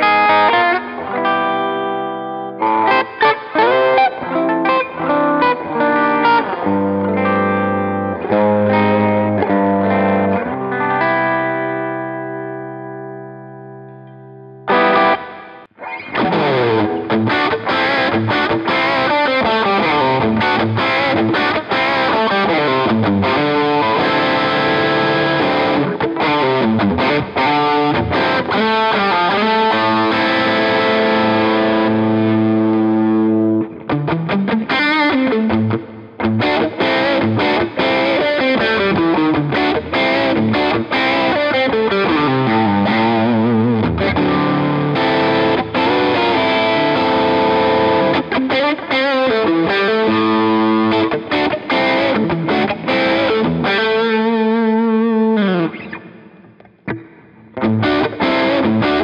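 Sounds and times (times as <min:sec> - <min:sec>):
distorted electric guitar lead: 0:00.0 - 0:59.0.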